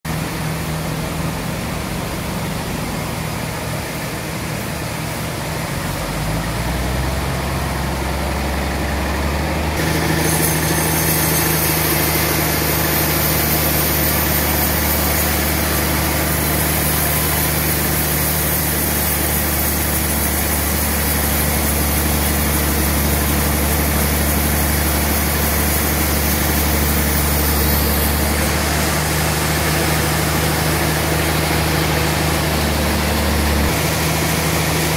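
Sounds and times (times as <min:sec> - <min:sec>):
sawmill machinery hum: 0:00.1 - 0:34.9.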